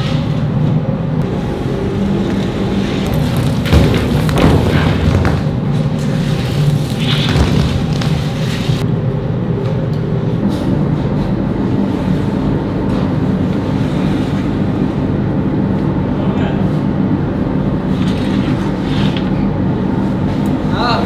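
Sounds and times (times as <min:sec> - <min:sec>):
bakery machinery drone: 0:00.0 - 0:21.0.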